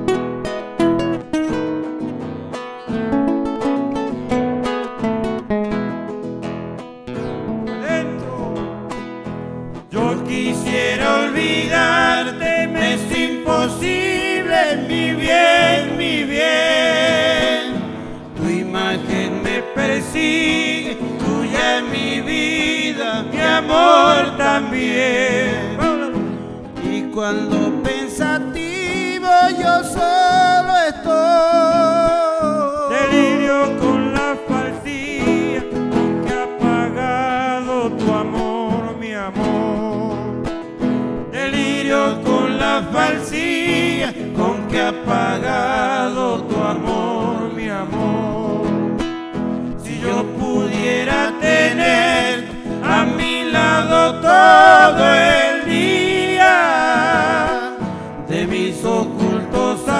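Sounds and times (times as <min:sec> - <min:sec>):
acoustic guitars strumming: 0:00.0 - 0:59.9
person singing: 0:07.8 - 0:08.8, 0:09.8 - 0:40.4, 0:41.3 - 0:48.9, 0:49.8 - 0:59.9.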